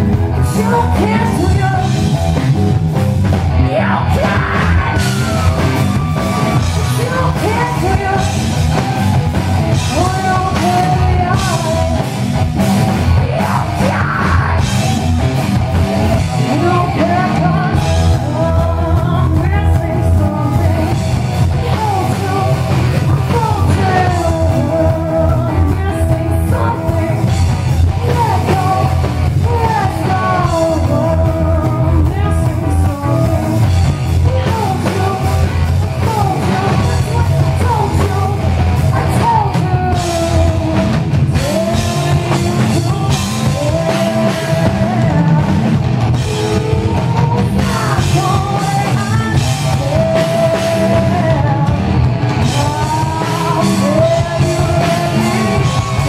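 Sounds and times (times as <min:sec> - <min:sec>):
live rock band playing: 0:00.0 - 0:56.0
woman singing: 0:00.3 - 0:02.2, 0:03.5 - 0:09.0, 0:09.6 - 0:14.9, 0:16.2 - 0:56.0.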